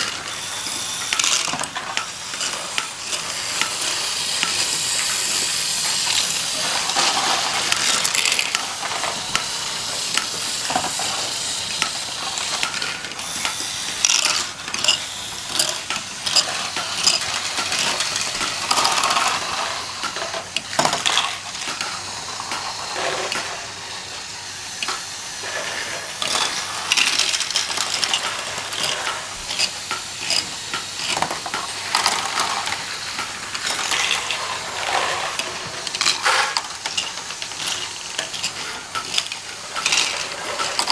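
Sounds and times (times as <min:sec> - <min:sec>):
plastic toy bricks clicking and clattering: 0:00.0 - 0:40.9.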